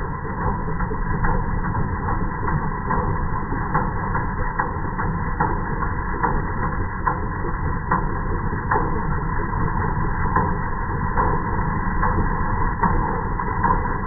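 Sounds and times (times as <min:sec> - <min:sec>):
harvester engine running: 0:00.0 - 0:14.0.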